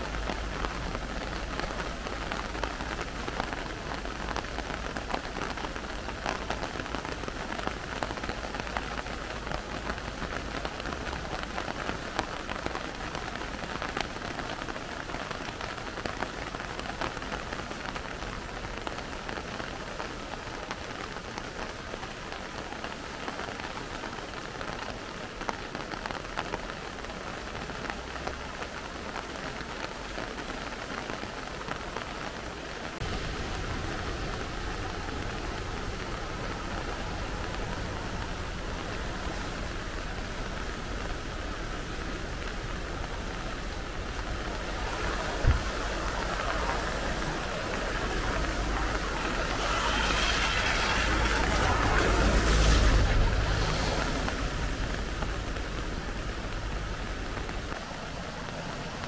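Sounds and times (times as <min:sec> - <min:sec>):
river rushing in flood: 0:00.0 - 0:59.0
steady rain: 0:00.0 - 0:59.0.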